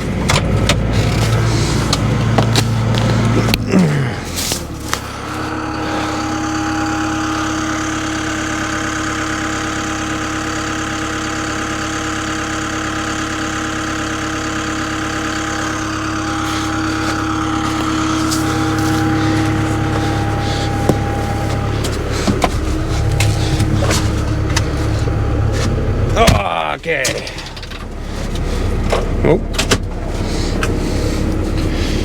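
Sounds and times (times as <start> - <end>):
steady whine: 0.0 - 11.4, 13.9 - 32.0
excavator diesel engine running: 0.0 - 32.0.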